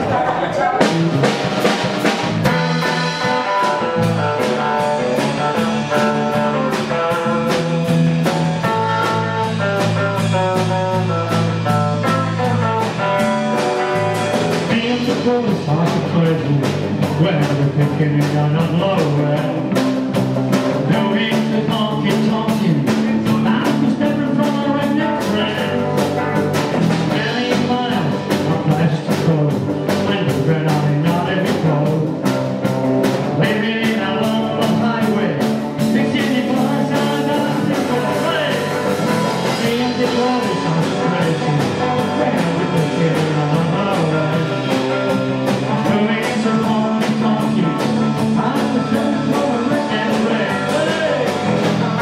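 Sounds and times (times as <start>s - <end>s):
bass guitar: 0.0s - 52.0s
drum kit beat: 0.0s - 52.0s
electric and acoustic guitars: 0.0s - 52.0s.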